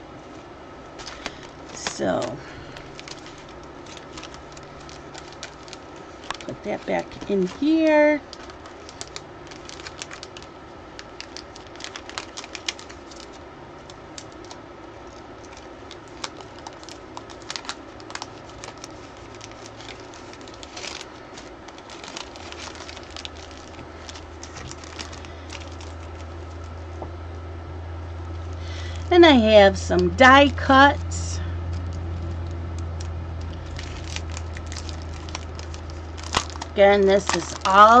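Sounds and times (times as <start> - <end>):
cellophane crinkling and rustling: 0.1 - 27.3, 28.2 - 38.0.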